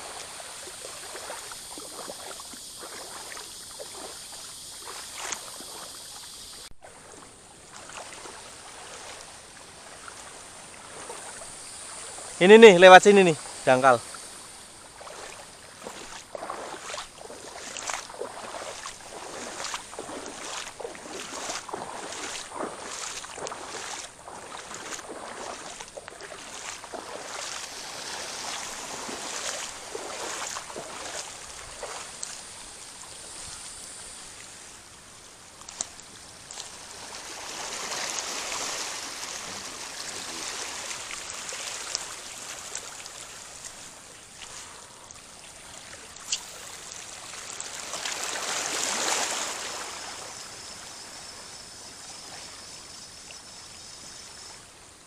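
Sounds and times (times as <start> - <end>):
swishing water wash: 0.0 - 14.0, 14.9 - 34.8, 35.6 - 44.9, 45.5 - 50.3
feet wading in shallow water: 0.0 - 54.4.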